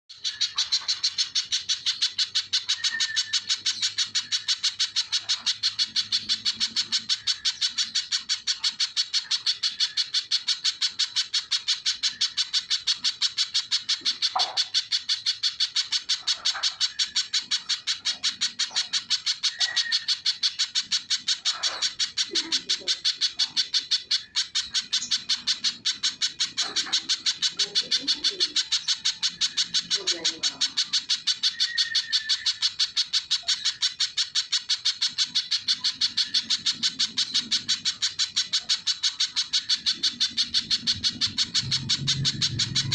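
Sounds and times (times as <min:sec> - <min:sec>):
bird singing sharp high notes: 0:00.2 - 0:22.2, 0:23.2 - 0:42.9.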